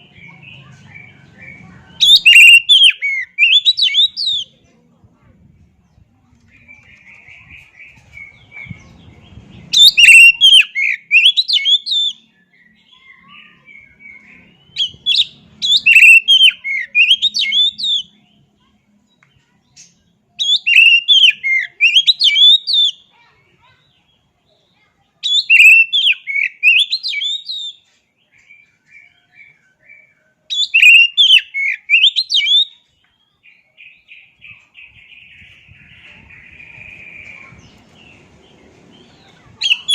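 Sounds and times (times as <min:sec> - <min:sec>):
magpie-robin whistled song: 0:00.0 - 0:04.6, 0:05.9 - 0:18.5, 0:19.3 - 0:23.1, 0:23.8 - 0:39.9
soft buzzy bird chatter: 0:00.0 - 0:11.0, 0:11.6 - 0:39.9.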